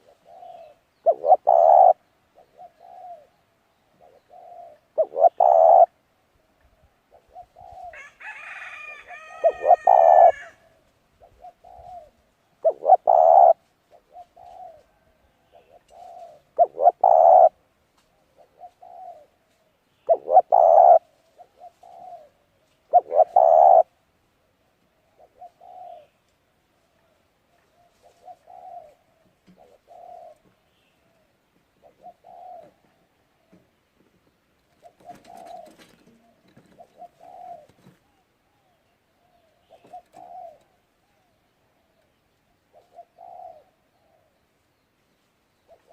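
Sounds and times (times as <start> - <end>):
pigeon cooing: 0.0 - 3.4, 4.0 - 6.0, 7.1 - 8.1, 8.9 - 17.6, 18.2 - 23.9, 25.0 - 26.2, 27.6 - 33.6, 34.7 - 42.0, 42.7 - 44.4.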